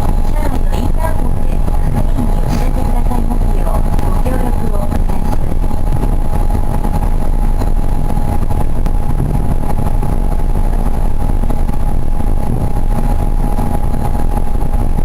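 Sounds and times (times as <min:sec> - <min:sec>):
constant high hum: 0:00.0 - 0:15.0
train running heavy rumble: 0:00.0 - 0:15.0.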